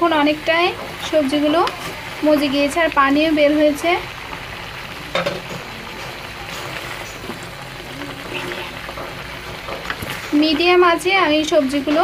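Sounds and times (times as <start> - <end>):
spatula stirring vegetables: 0.0 - 12.0
vegetables sizzling in a pan: 0.0 - 12.0.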